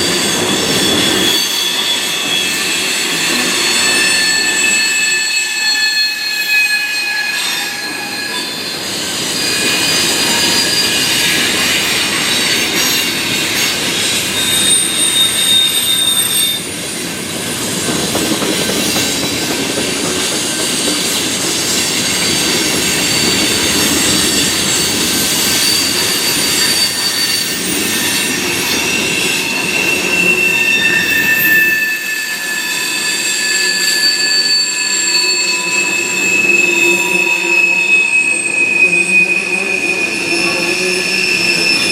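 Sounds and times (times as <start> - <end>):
train wheels squealing: 0.0 - 41.9.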